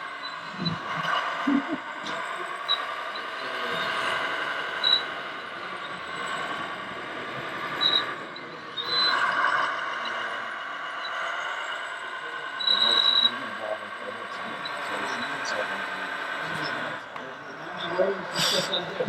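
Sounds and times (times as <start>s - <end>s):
small motors and gears whining: 0.0s - 19.0s.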